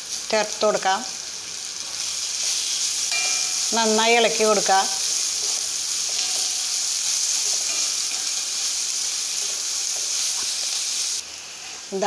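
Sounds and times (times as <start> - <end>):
shallots sizzling in hot oil: 0.0 - 12.0.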